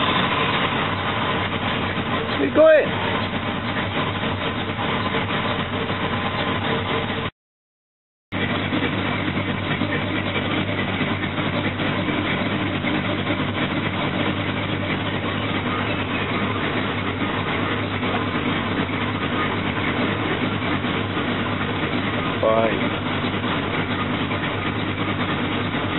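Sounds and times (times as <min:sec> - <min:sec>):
vehicle engine idling: 0:00.0 - 0:07.3, 0:08.3 - 0:25.9.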